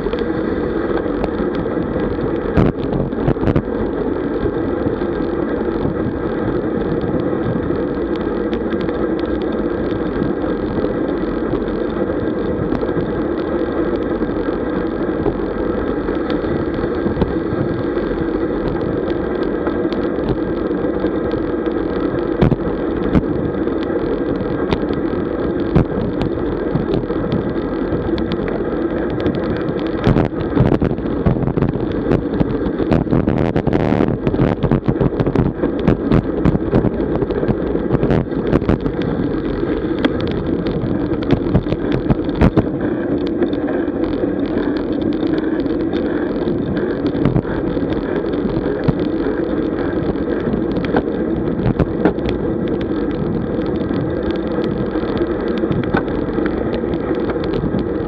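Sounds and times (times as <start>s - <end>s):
bicycle tyre noise: 0.0s - 58.0s
wind rush over microphone: 0.0s - 58.0s.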